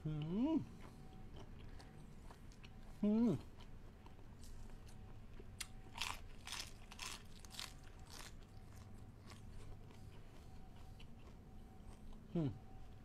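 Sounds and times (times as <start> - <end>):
crunching and chewing: 0.2 - 13.0.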